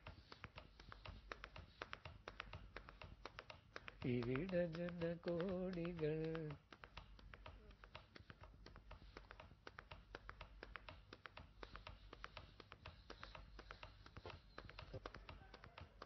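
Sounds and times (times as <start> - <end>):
faint quick tapping clicks: 0.0 - 16.0.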